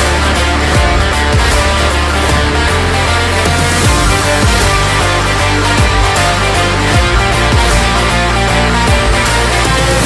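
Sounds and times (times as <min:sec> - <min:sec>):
background music with heavy drum beat: 0:00.0 - 0:10.0.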